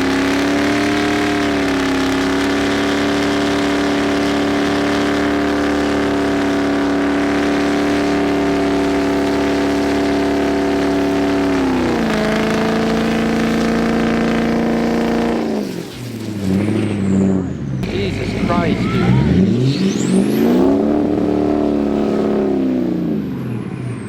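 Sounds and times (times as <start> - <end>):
truck engine at high revs: 0.0 - 24.0.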